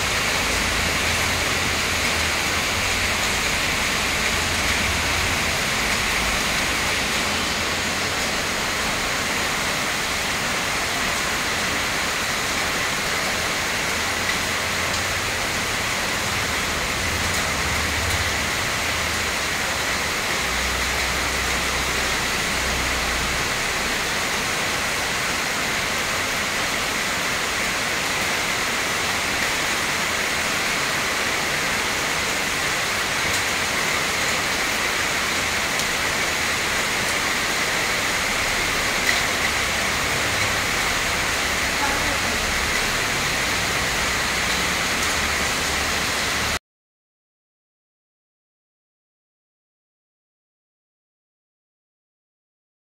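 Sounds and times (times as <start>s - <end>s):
heavy rain on foliage: 0.0s - 46.6s.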